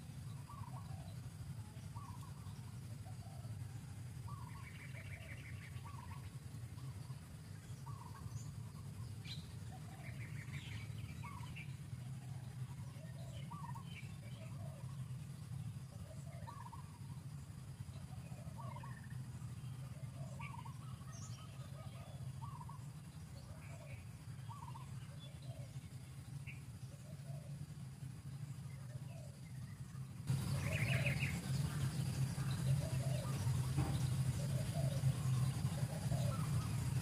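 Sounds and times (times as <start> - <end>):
bird fast trill: 0.0 - 27.6, 28.2 - 37.0
steady low hum: 0.0 - 37.0.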